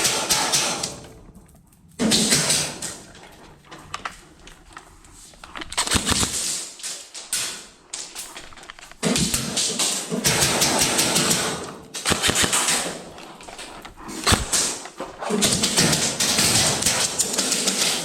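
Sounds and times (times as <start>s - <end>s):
airsoft guns firing bursts: 0.0s - 1.0s, 2.0s - 3.5s, 5.4s - 18.0s.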